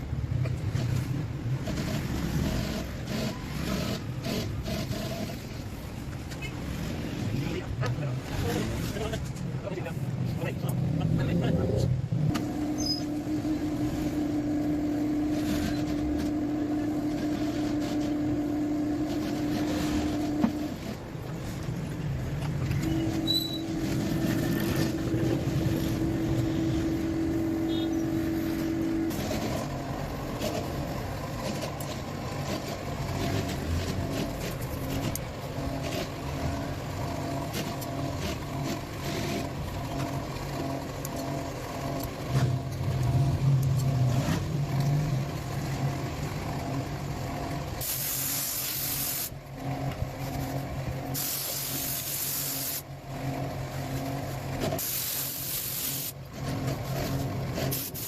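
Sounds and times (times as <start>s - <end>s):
machine hum: 10.1s - 58.0s.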